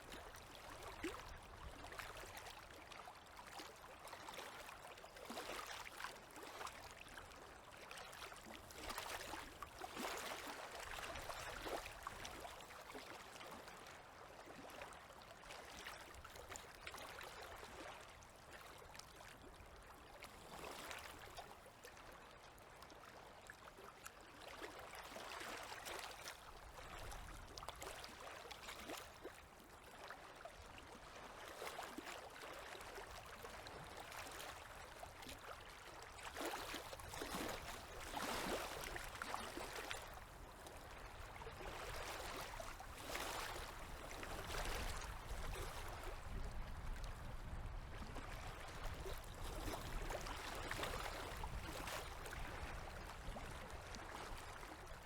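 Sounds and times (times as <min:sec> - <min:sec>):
small waves lapping: 0:00.0 - 0:55.0.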